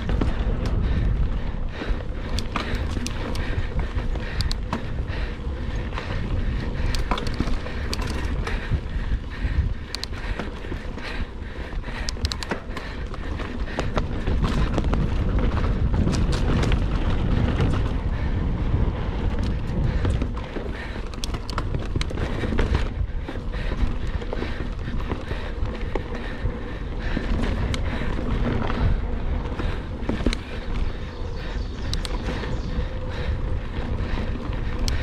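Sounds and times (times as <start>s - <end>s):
bike clicking and rattling: 0.0s - 35.0s
tyres on dirt: 0.0s - 35.0s
wind on microphone: 0.0s - 35.0s.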